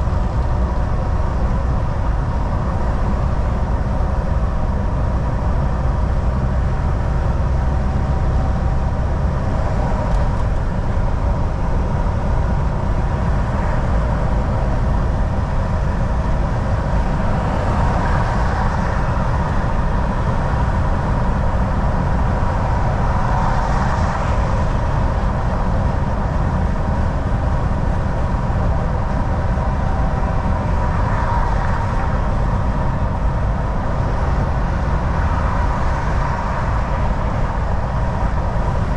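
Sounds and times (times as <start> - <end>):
constant hum: 0.0 - 38.9
truck engine and road rumble: 0.0 - 38.9.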